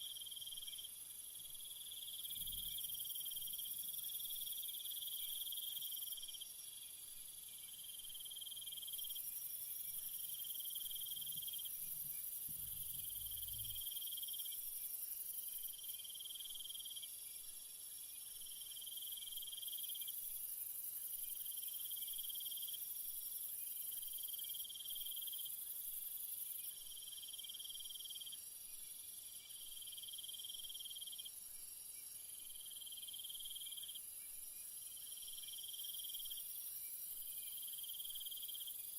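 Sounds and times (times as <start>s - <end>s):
lower insect chorus pulsing: 0.0s - 17.2s, 17.8s - 38.9s.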